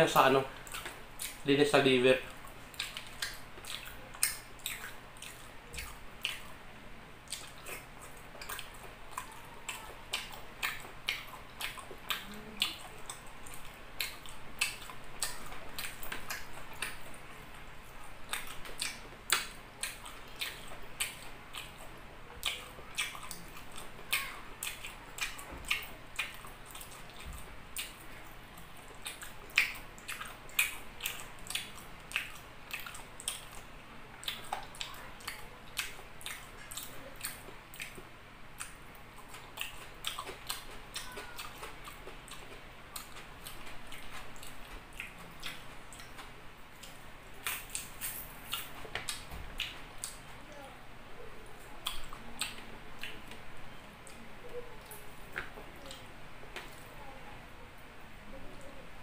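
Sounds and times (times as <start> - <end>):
person chewing and lip-smacking: 0.2 - 6.6, 7.2 - 50.3, 51.2 - 57.0.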